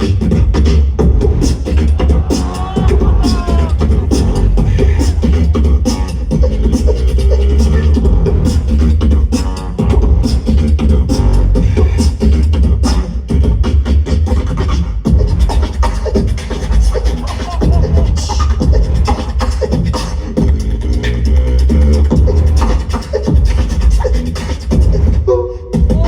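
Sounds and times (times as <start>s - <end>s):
beatboxing vocal percussion: 0.0s - 26.0s
deep bass line: 0.0s - 26.0s.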